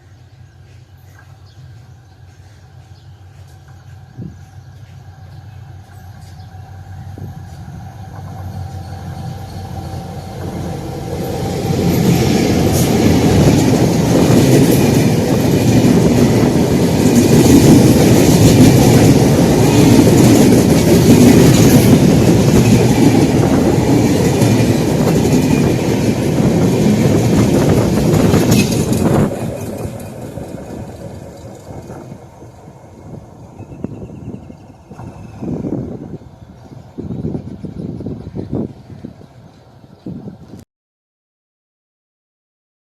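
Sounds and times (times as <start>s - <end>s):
train passing at speed: 0.0s - 40.6s
wheel and carriage noise: 0.8s - 40.6s.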